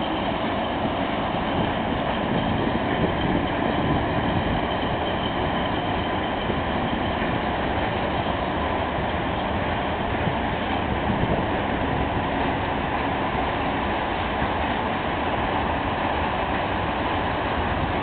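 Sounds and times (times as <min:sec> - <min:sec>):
electric locomotive passing: 0:00.0 - 0:18.0.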